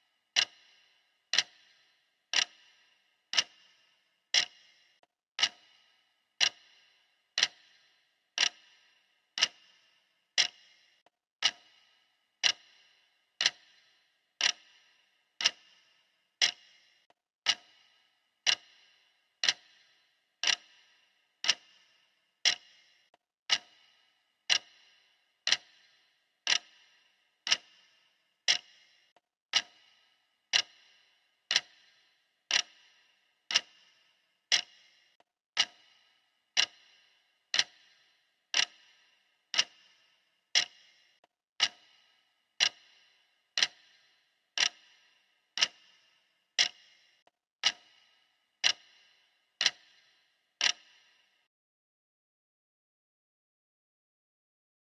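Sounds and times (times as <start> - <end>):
clock ticking: 0.0 - 51.5.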